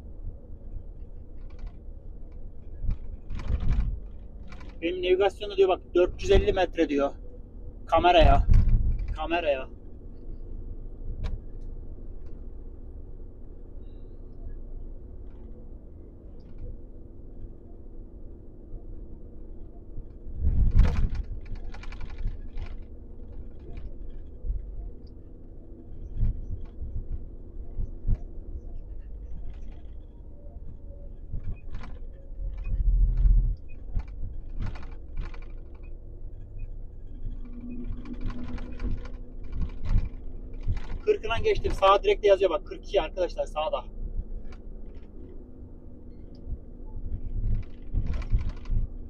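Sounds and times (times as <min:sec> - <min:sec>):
engine and road rumble: 0:00.0 - 0:49.0.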